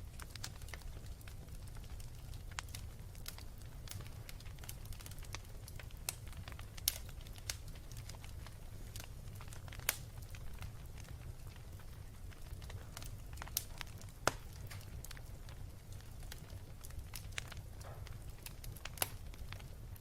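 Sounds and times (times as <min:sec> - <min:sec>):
fire crackling and popping: 0:00.0 - 0:20.0
wood fire rumbling: 0:00.0 - 0:20.0.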